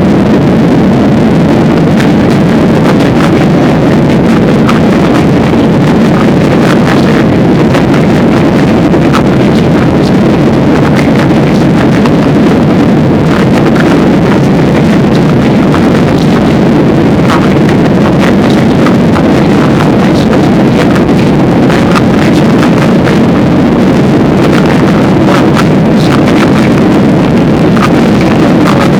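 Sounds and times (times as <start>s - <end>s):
airliner engines roaring: 0.0s - 28.9s.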